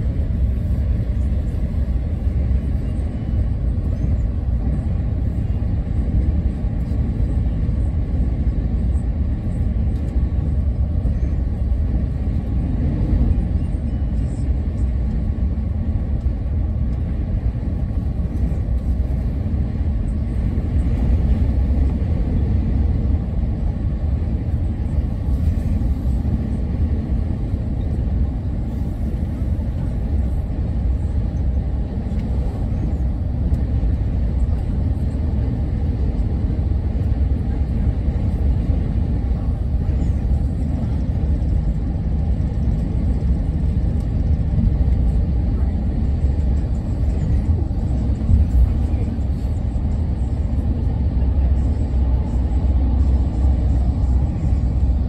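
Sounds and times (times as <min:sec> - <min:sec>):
vehicle road and engine rumble: 0:00.0 - 0:55.0.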